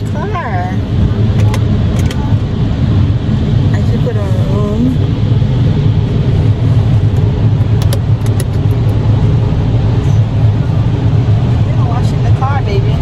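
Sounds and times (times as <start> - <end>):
car wash rumbling: 0.0 - 13.0.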